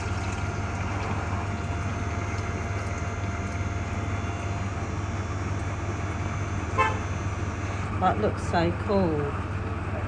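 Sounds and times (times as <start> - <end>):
thin constant whine: 0.0 - 9.4
vending machine humming: 0.0 - 10.0.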